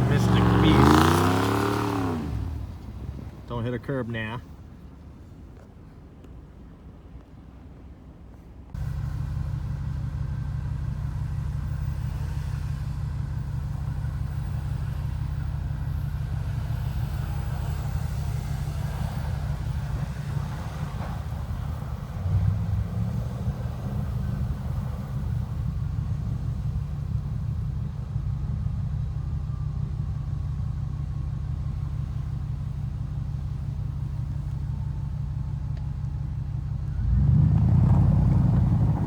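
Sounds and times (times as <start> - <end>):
truck engine running: 0.0 - 7.3, 8.7 - 39.0.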